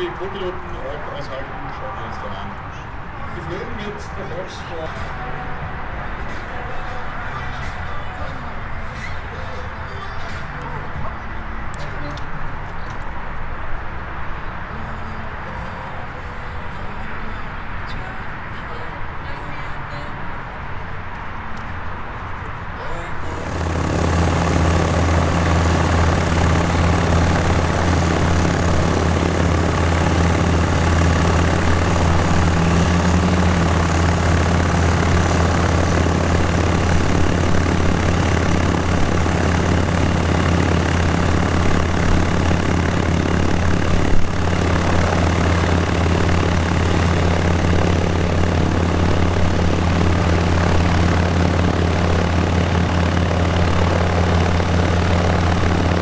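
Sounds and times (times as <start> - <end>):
ultralight engine drone: 0.0 - 56.0.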